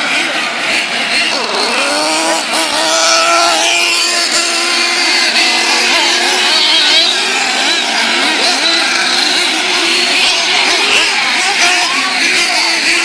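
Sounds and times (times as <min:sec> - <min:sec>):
racing engines revving: 0:00.0 - 0:13.0.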